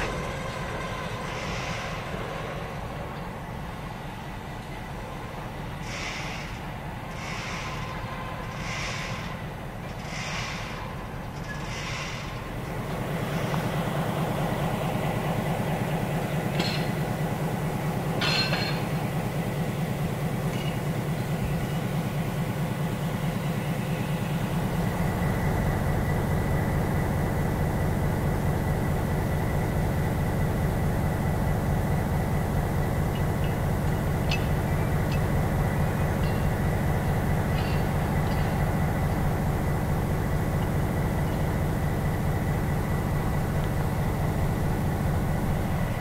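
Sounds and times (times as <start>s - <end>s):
diesel locomotive engine rumbling: 0.0s - 46.0s.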